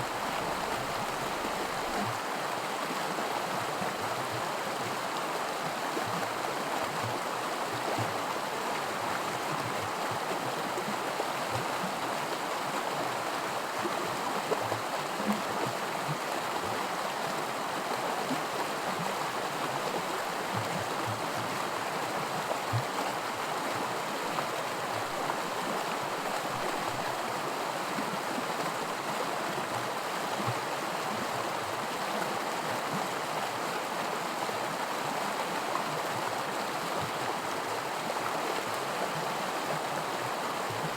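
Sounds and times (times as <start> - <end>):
creek rippling and splashing: 0.0 - 40.9.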